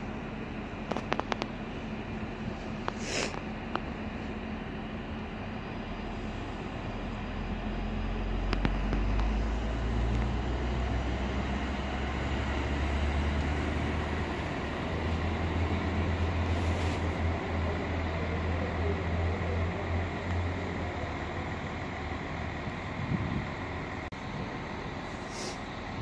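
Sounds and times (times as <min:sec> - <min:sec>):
diesel train engines rumbling: 0:00.0 - 0:26.0.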